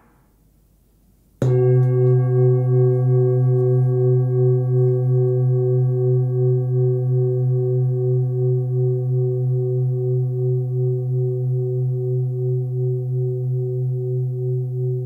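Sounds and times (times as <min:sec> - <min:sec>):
singing bowl ringing: 0:01.4 - 0:15.0.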